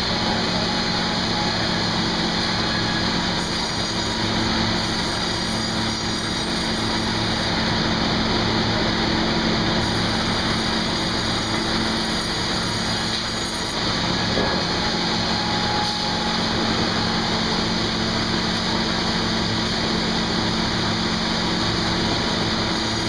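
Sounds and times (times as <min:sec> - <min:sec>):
sawmill machinery hum: 0:00.0 - 0:23.0.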